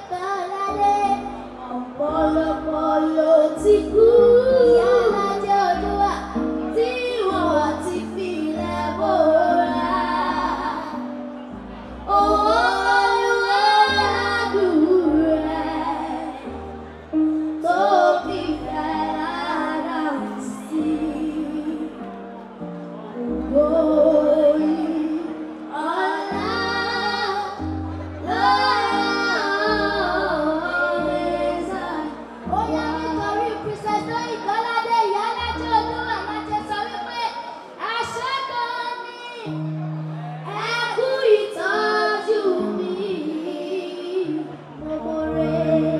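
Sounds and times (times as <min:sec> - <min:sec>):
girls singing into microphones: 0:00.0 - 0:22.1, 0:23.2 - 0:45.9
amplified musical backing: 0:00.0 - 0:45.9.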